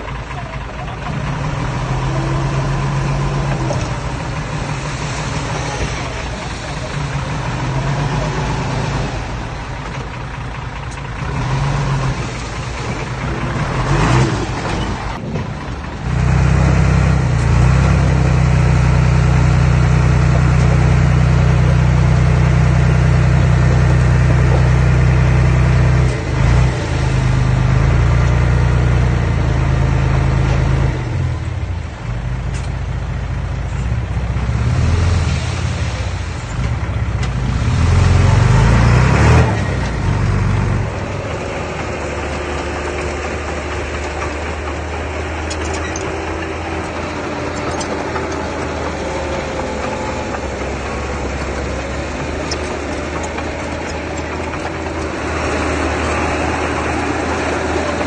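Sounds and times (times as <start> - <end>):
heavy machinery engine running: 0.0 - 58.0.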